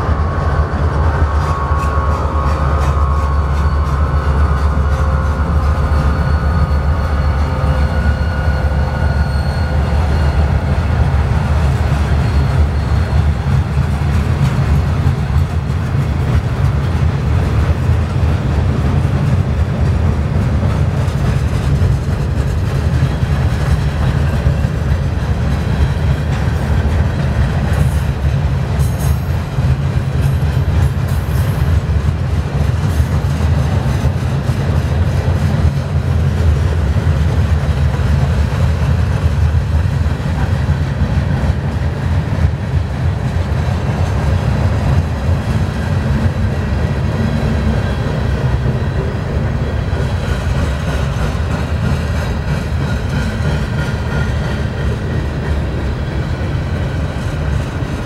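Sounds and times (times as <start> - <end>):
boxcars clicking and clanking: 0.0 - 58.0
diesel locomotive whine: 0.0 - 58.0
train wheels rumbling on rails: 0.0 - 58.0.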